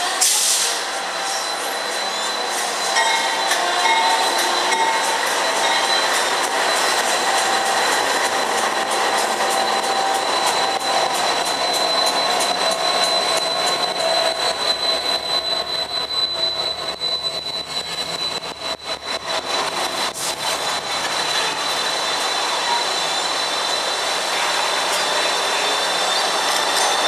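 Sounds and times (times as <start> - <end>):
high-pitched whine: 0.0 - 27.0
locomotive engines running: 0.0 - 27.0
train wheels rolling on rails: 0.0 - 27.0.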